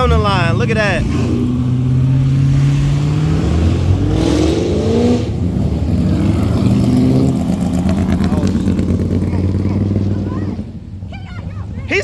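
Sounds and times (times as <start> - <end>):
car engine revving: 0.0 - 11.1
car engines running in traffic: 0.0 - 12.0.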